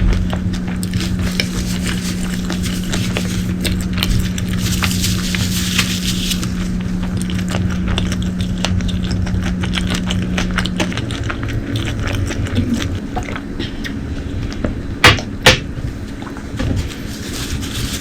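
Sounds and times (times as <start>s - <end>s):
close chewing and eating: 0.0s - 18.0s
steady low hum: 0.0s - 18.0s.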